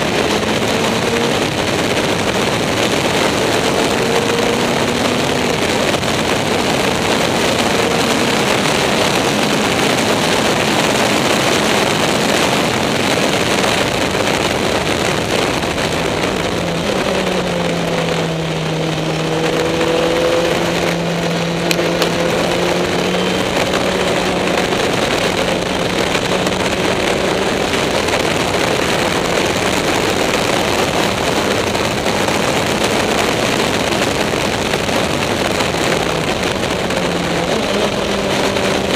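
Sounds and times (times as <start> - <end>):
race car engine: 0.0 - 38.9
wind and road noise: 0.0 - 38.9.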